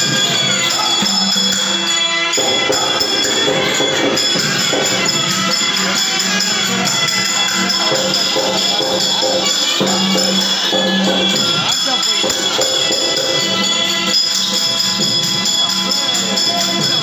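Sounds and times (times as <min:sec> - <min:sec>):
jingling percussion: 0:00.0 - 0:17.0
steady held tones: 0:00.0 - 0:17.0.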